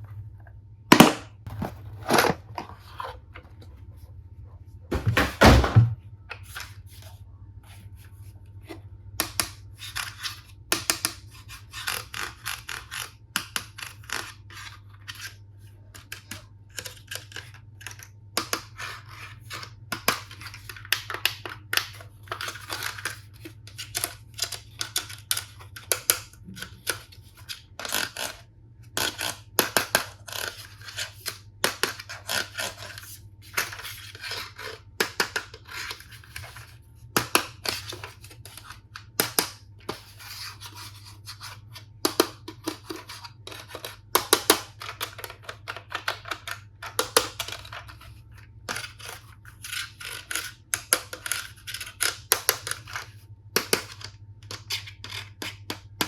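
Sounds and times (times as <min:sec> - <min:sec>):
plastic toys clicking and scraping: 0:08.6 - 0:56.0.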